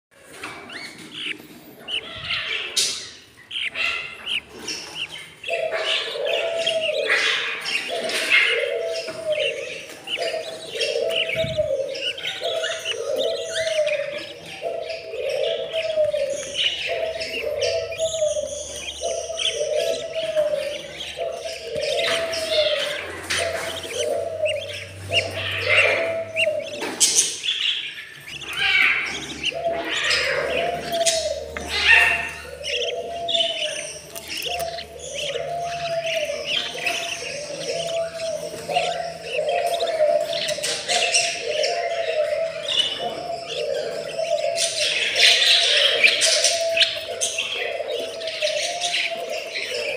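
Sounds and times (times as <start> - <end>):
chicks chirping and squeaking: 0.1 - 49.9
low repeated bird call: 0.1 - 49.9.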